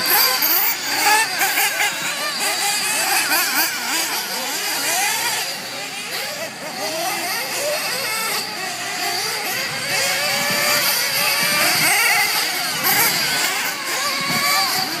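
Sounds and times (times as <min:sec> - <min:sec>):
small engines revving: 0:00.0 - 0:15.0.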